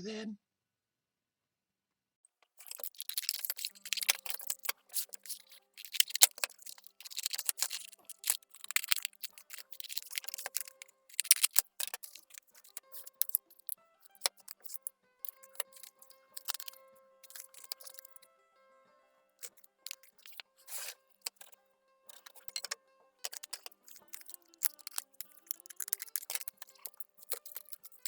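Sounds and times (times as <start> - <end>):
faint music: 2.9 - 28.0.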